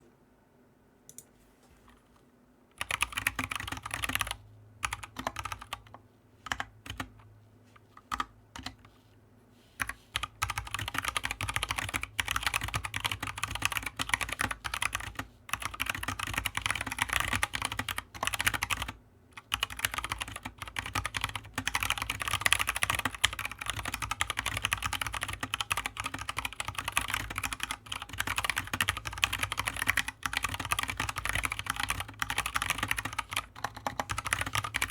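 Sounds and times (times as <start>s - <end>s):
mechanical keyboard typing clatter: 2.8s - 5.9s, 6.5s - 7.2s, 8.0s - 8.8s, 10.2s - 34.9s.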